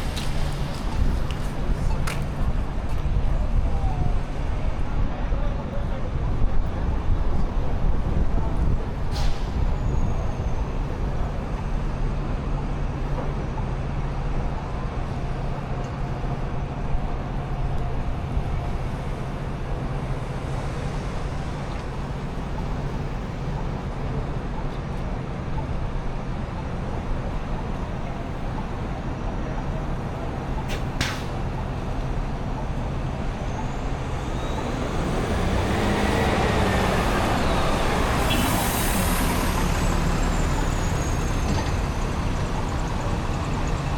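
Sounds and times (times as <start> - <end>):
heavy vehicle engine drone: 0.0 - 43.9
road noise: 0.0 - 43.9.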